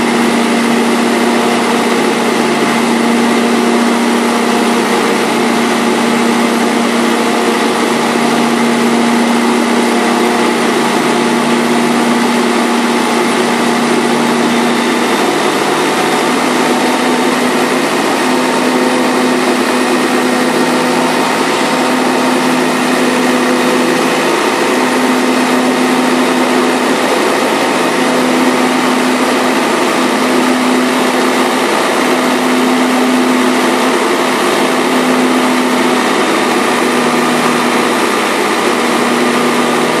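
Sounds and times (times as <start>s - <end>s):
tractor diesel engine droning: 0.0s - 40.0s.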